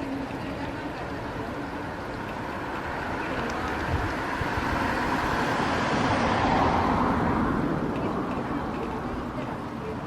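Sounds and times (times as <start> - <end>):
passing vehicle: 0.0 - 10.0.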